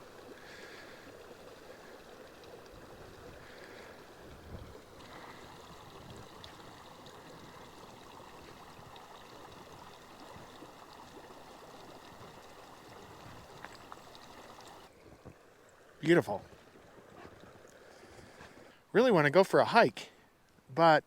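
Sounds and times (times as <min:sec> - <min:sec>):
creek babbling: 0:00.0 - 0:21.0.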